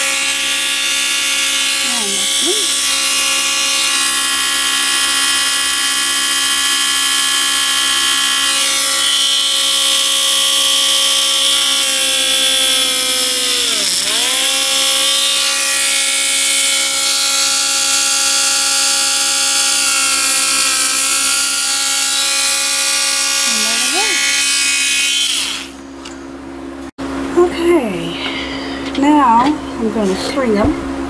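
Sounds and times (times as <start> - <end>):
rotary drill whining: 0.0 - 26.2.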